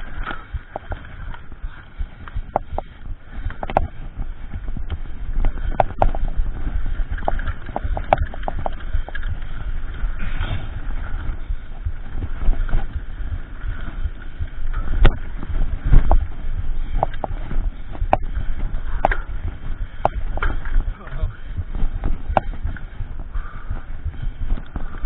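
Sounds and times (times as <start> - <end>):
bike rattling over bumps: 0.0 - 25.0
wind on microphone: 0.0 - 25.0.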